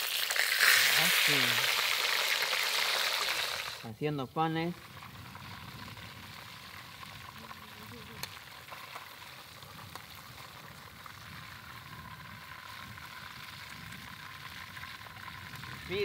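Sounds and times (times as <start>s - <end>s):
fish sizzling in hot oil: 0.0s - 3.9s, 4.6s - 16.0s.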